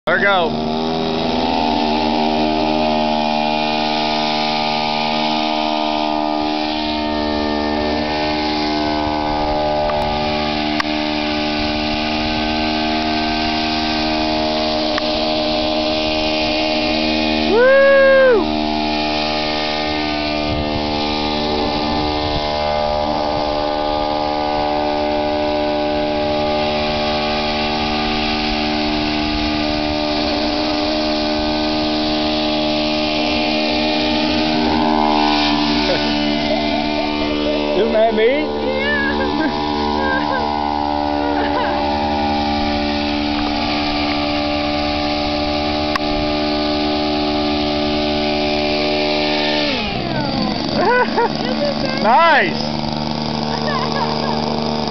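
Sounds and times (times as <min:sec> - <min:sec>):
two-stroke engine running: 0:00.0 - 0:54.9
loud pitched tone: 0:00.1 - 0:54.9.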